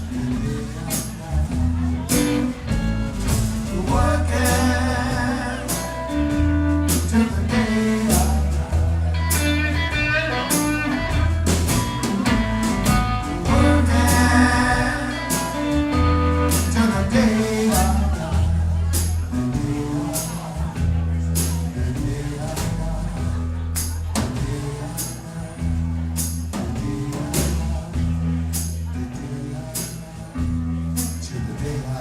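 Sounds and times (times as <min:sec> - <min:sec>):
blues-rock band music: 0:00.0 - 0:32.0
guitar: 0:00.0 - 0:32.0
person singing: 0:03.4 - 0:32.0.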